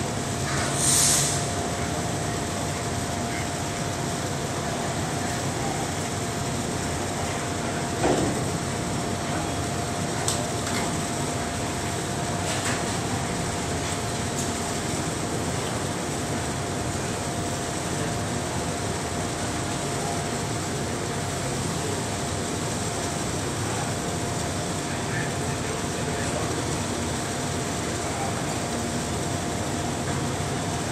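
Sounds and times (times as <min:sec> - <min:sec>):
industrial machinery drone: 0:00.0 - 0:30.9.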